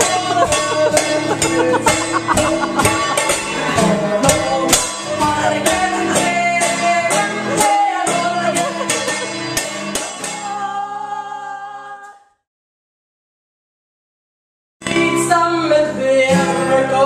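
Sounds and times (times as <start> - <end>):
acoustic guitar strumming: 0.0 - 11.8, 14.8 - 17.0
woman singing: 0.0 - 12.4, 14.8 - 17.0.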